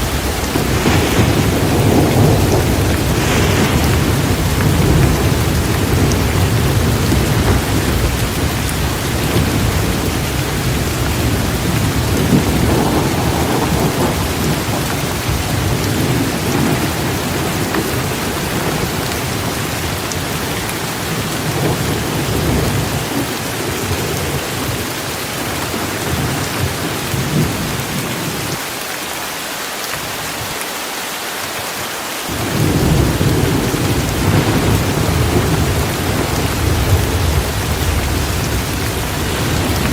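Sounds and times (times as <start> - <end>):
rolling thunder: 0.0 - 28.6, 32.3 - 39.9
torrential rain: 0.0 - 39.9.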